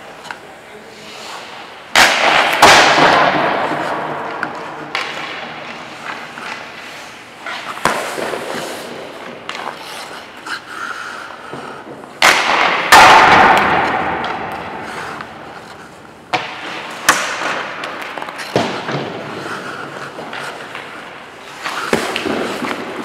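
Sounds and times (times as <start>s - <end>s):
hockey sticks slapping pucks: 0.0s - 23.0s
skates scraping ice: 0.0s - 23.0s.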